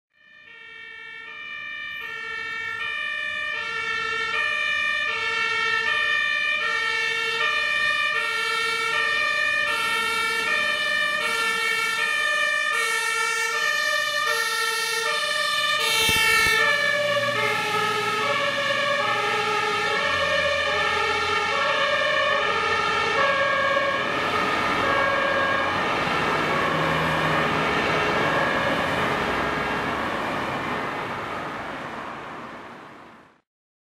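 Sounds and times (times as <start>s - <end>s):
fire engine two-tone siren: 0.1s - 33.4s
truck engine and road noise: 0.2s - 33.4s.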